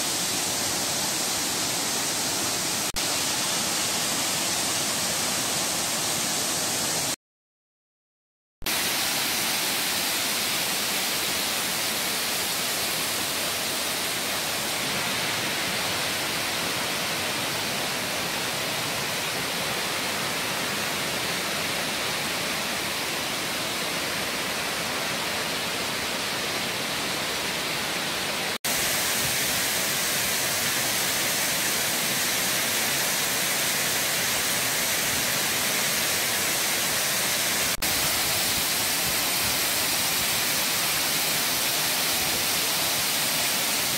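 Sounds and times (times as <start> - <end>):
waterfall rushing: 0.0 - 7.2, 8.7 - 43.9.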